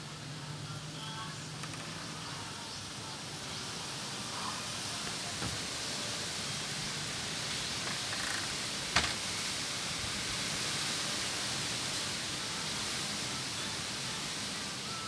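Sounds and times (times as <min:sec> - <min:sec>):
wind rushing through foliage: 0:01.4 - 0:15.0.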